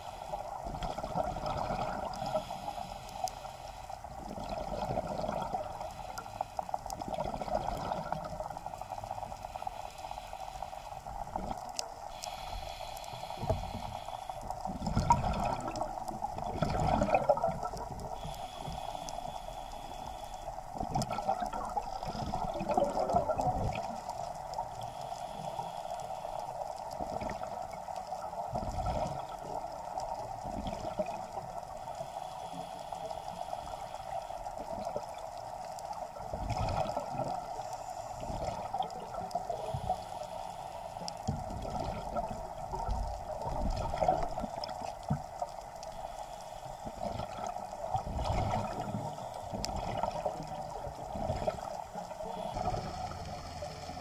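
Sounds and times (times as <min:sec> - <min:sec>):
underwater water hiss: 0:00.0 - 0:54.0.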